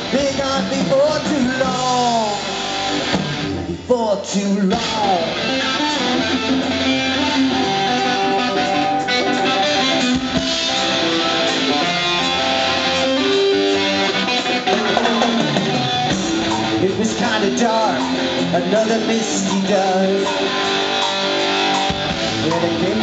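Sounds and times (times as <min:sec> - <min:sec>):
electric guitar melodic notes: 0:00.0 - 0:23.0
live rock band playing: 0:00.0 - 0:23.0.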